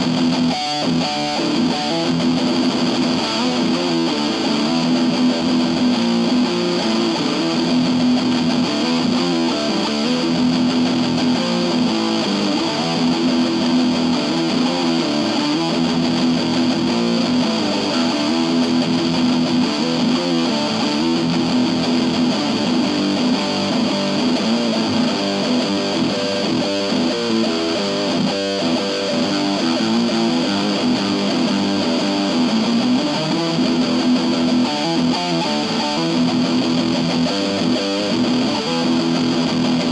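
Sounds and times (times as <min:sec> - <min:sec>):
electric guitar ringing chords: 0:00.0 - 0:39.9.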